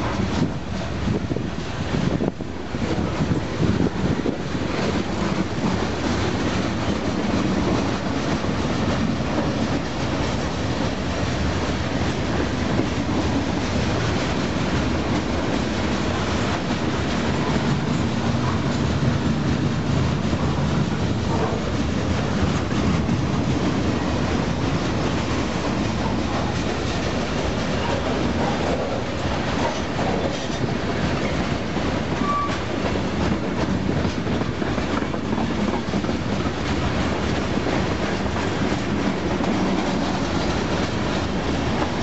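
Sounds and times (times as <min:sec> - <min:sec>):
train wheels rumbling on rail: 0:00.0 - 0:42.0
wheels clicking over rail joints: 0:00.0 - 0:42.0.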